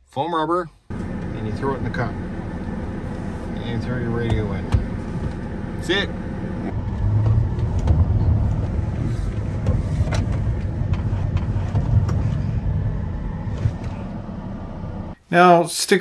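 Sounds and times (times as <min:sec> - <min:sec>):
road and engine rumble: 0:00.8 - 0:15.2.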